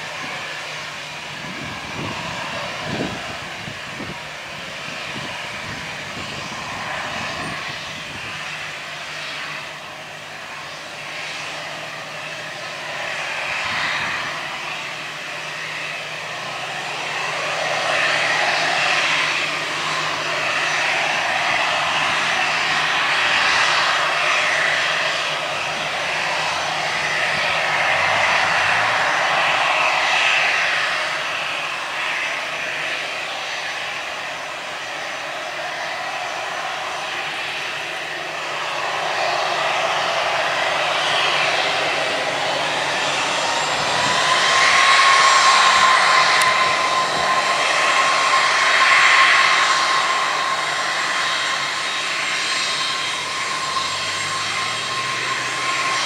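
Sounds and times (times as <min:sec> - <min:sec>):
jet engines whining hiss: 0:00.0 - 0:56.0.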